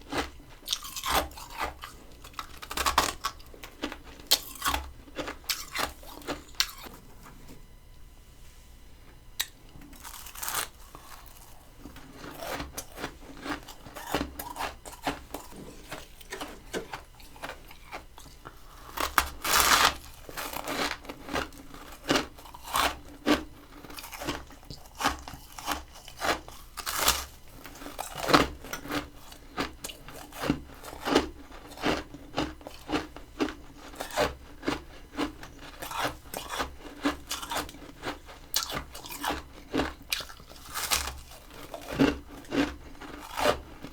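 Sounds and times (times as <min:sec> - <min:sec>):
crunchy frost chewing: 0:00.0 - 0:07.1, 0:09.4 - 0:43.9.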